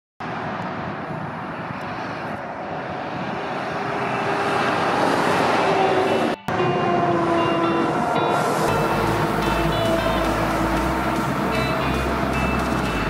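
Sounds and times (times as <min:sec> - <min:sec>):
car passing: 0:00.2 - 0:13.0
truck passing: 0:00.2 - 0:13.0.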